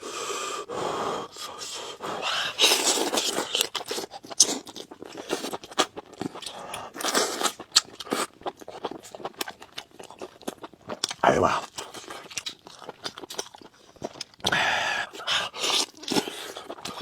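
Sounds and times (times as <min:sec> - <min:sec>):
chewing and biting chicken: 0:02.6 - 0:17.0.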